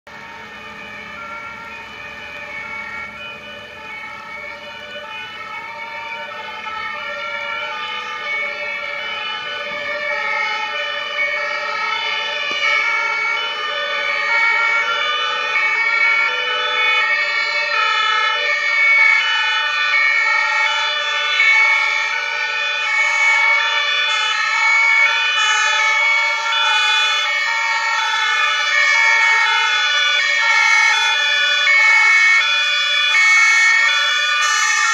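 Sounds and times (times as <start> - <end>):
two-tone fire engine sirens: 0.1 - 34.9.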